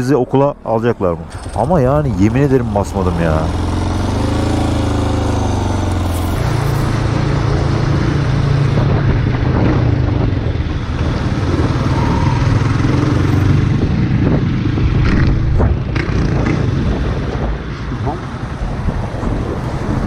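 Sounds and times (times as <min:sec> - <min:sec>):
motorcycle engine running: 0:01.2 - 0:17.6
wind rushing over microphone: 0:01.2 - 0:20.0.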